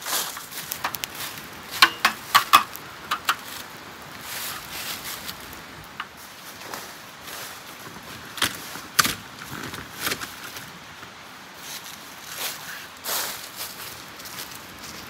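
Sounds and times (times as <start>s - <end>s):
rustling in dry leaves: 0.0s - 15.0s.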